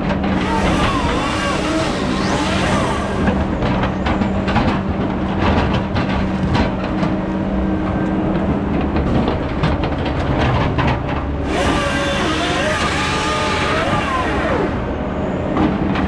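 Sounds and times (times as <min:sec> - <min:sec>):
machinery clanks and knocks: 0:00.0 - 0:14.8, 0:15.4 - 0:16.0
logging machinery engine drone: 0:00.0 - 0:16.0.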